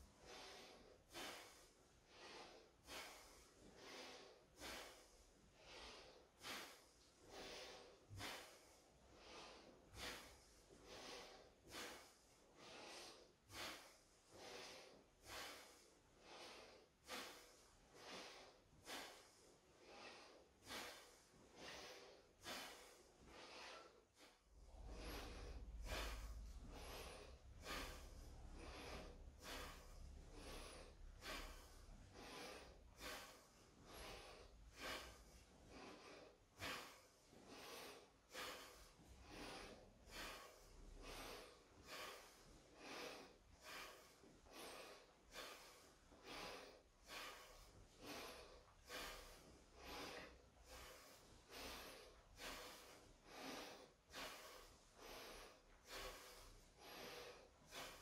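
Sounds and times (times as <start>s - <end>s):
person breathing forcefully: 0.0s - 58.0s.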